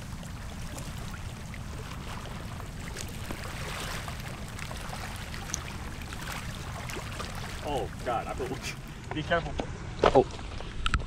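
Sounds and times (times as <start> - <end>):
river current rushing: 0.0 - 9.4.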